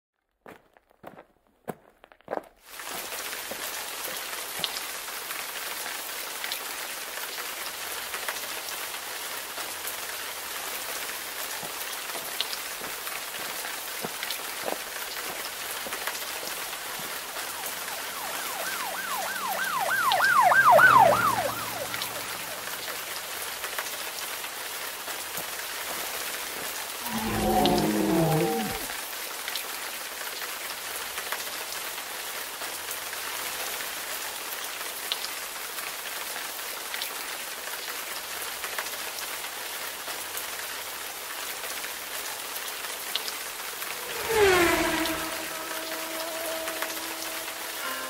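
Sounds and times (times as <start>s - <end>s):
rain drops ticking: 2.3s - 44.4s
rain hiss: 2.6s - 48.0s.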